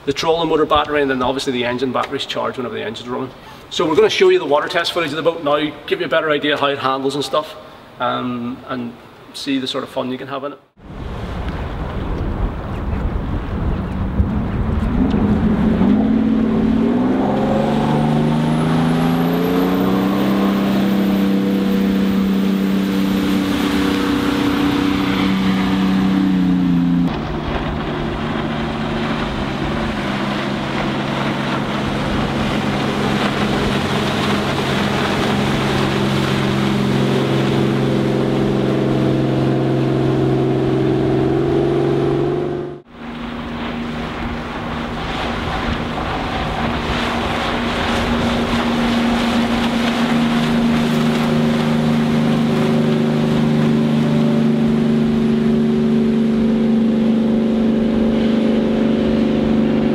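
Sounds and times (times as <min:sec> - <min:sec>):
boat engine drone: 0:10.8 - 0:59.9.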